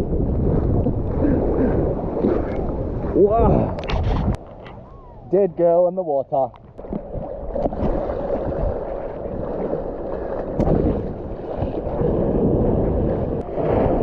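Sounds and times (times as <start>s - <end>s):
wind buffeting microphone: 0.0s - 5.6s, 6.6s - 14.0s
surf washing: 0.0s - 5.8s, 6.5s - 14.0s.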